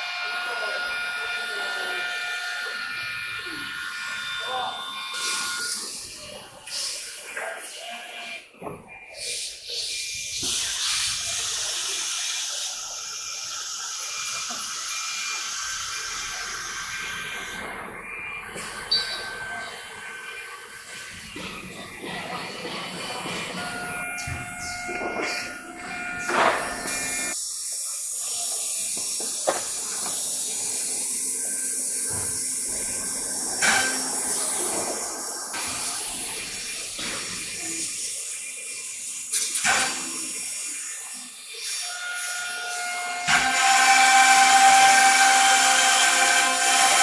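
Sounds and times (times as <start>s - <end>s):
cnc router hissing and whining: 0.0s - 8.6s, 9.2s - 47.0s.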